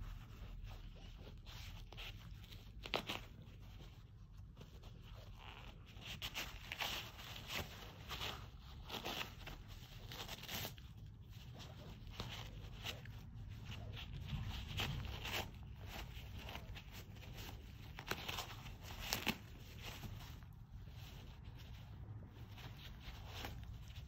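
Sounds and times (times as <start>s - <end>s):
paper ripping and rustling: 0.4s - 24.0s.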